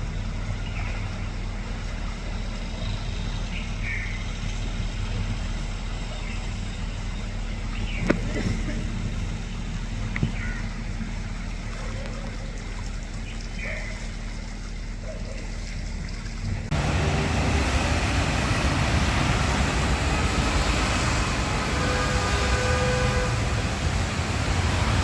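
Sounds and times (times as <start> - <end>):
vehicles driving through water: 0.0 - 25.0.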